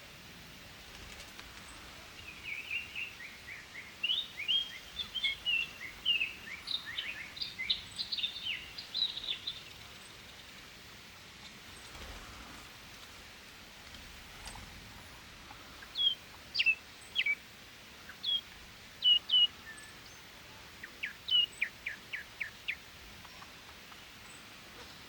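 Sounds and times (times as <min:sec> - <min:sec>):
faint steady outdoor hiss: 0:00.0 - 0:25.0
birds chirping: 0:00.6 - 0:10.8, 0:13.8 - 0:25.0.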